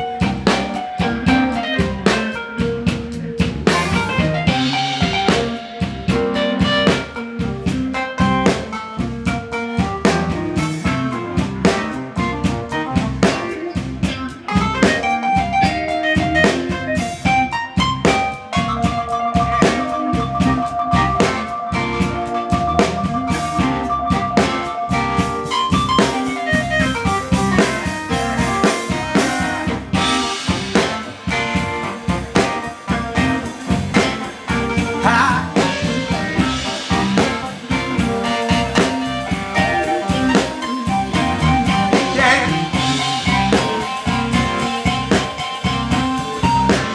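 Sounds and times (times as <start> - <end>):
saxophone: 0.0 - 8.5, 9.6 - 46.9
drum kit: 0.0 - 46.9
electric guitar: 0.0 - 46.9
electric keyboard: 0.0 - 46.9.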